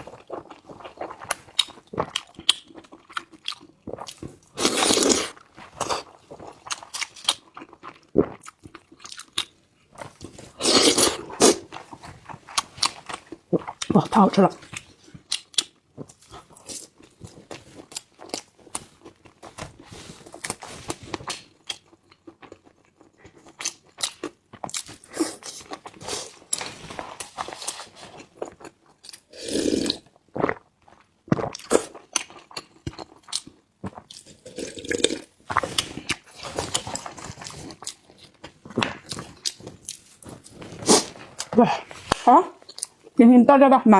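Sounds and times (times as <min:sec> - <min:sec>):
person chewing and crunching food: 0:00.0 - 0:43.2.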